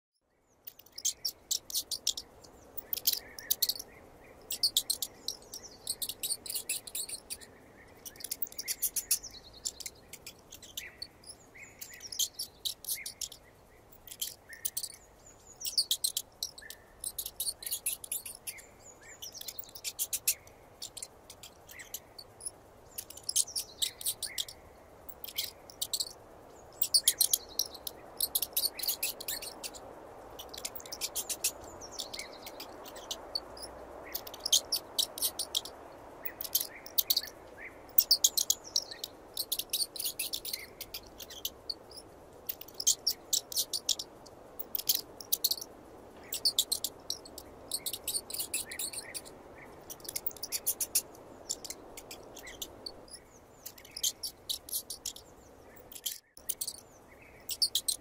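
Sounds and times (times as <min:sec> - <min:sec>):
faint steady hiss: 0:00.2 - 0:58.0
mouse squeaking: 0:00.7 - 0:03.9, 0:04.5 - 0:15.0, 0:15.6 - 0:18.6, 0:19.2 - 0:26.2, 0:26.8 - 0:37.3, 0:37.9 - 0:55.2, 0:55.8 - 0:56.8, 0:57.5 - 0:58.0.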